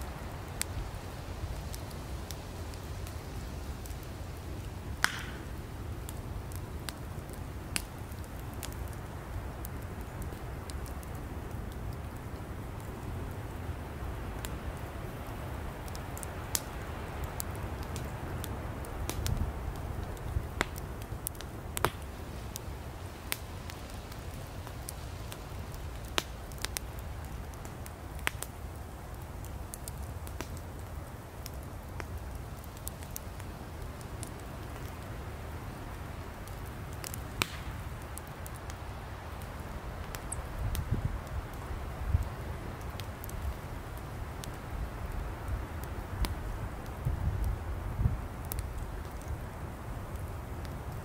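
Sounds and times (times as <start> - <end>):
campfire crackling and popping: 0.0 - 51.0
low rumble of flames: 0.0 - 51.0.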